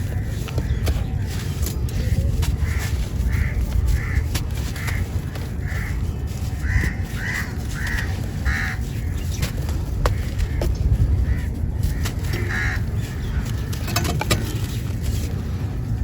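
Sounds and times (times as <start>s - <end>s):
bird calling: 0.0s - 15.6s
dry powder crackling: 0.0s - 16.0s
steady low rumble: 0.0s - 16.0s.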